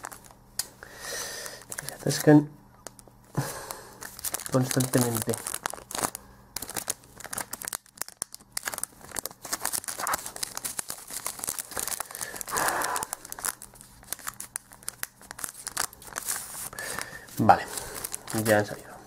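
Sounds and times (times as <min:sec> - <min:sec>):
foil wrapper crinkling: 0:00.0 - 0:00.7, 0:01.4 - 0:19.0.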